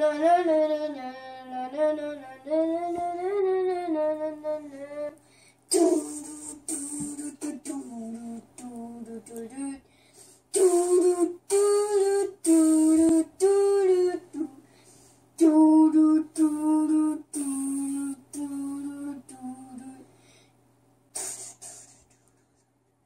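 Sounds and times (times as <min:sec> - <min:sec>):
boy singing unaccompanied: 0:00.0 - 0:09.8, 0:10.5 - 0:14.6, 0:15.4 - 0:20.1.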